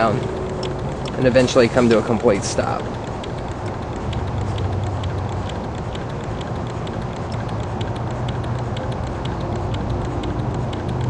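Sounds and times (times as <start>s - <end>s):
stirling engine ticking: 0.0s - 11.0s.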